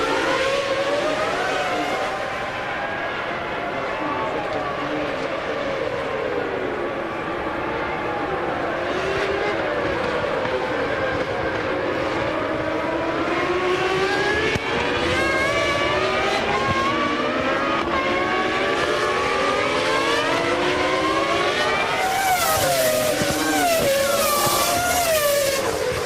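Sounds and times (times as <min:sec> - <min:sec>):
racing car engine accelerating: 0:00.0 - 0:03.7, 0:04.8 - 0:26.0.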